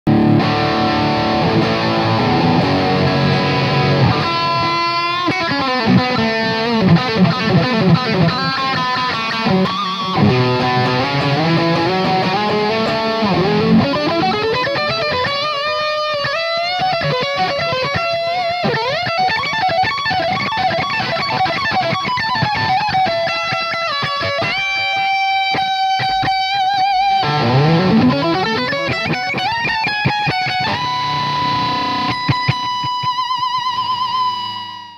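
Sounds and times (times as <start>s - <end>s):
distorted electric guitar lead: 0.1s - 34.9s.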